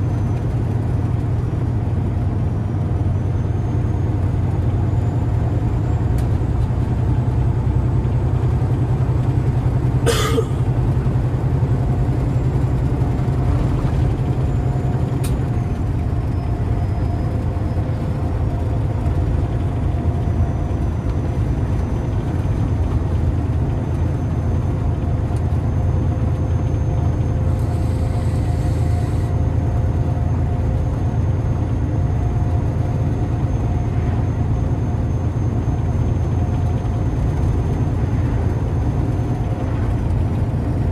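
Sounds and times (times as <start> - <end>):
truck engine drone: 0.0 - 40.9.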